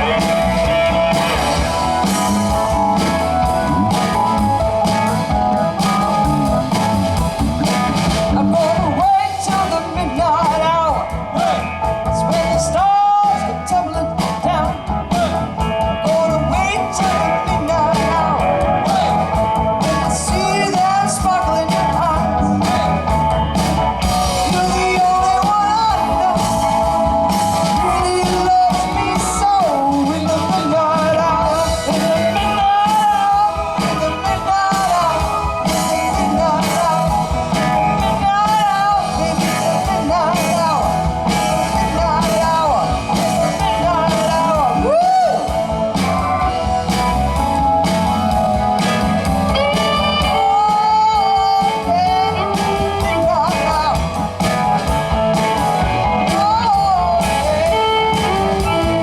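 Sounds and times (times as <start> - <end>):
bass guitar: 0.0 - 59.0
drums: 0.0 - 59.0
electric guitar bending notes: 0.0 - 59.0.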